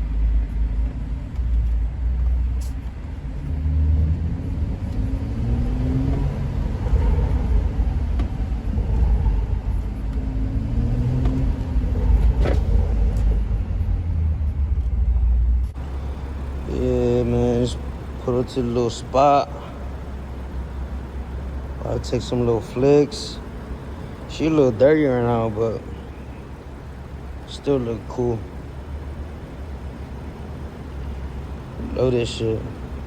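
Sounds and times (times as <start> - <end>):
car engine rumbling: 0.0 - 33.0.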